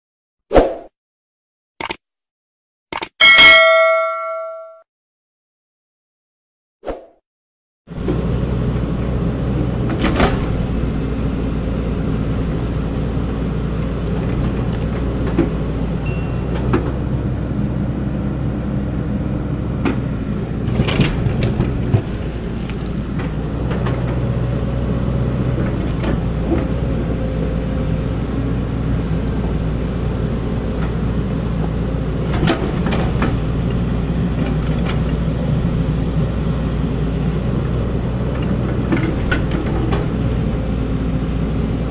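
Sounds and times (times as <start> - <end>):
excavator diesel engine running: 7.9 - 41.9.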